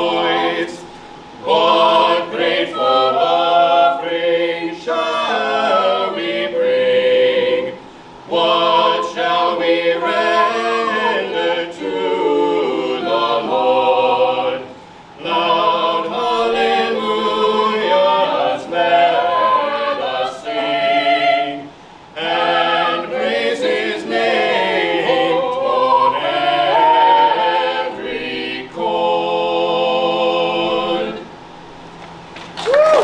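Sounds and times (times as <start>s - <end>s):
choir singing: 0.0s - 31.4s.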